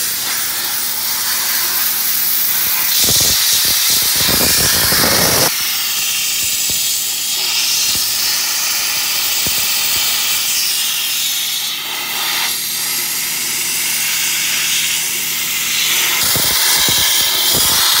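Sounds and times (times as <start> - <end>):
sandblaster hissing: 0.0 - 18.0.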